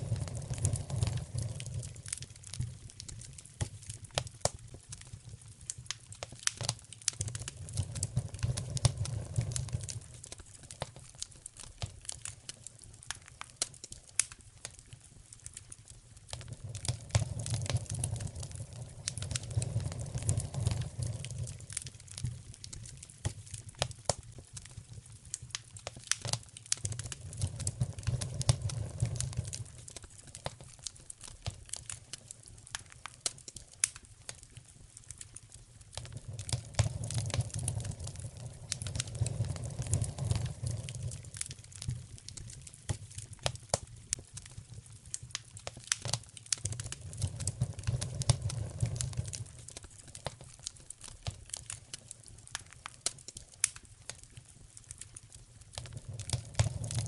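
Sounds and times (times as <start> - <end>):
low rumble of fire: 0.0 - 57.0
wood fire crackling: 0.0 - 57.0.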